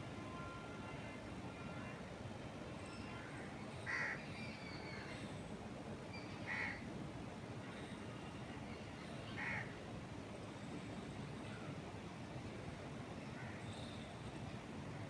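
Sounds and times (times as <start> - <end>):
wind through trees: 0.0 - 15.0.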